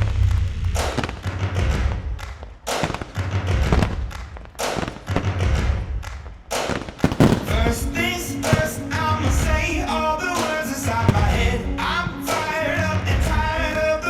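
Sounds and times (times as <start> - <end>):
firework shells bursting: 0.2 - 12.7.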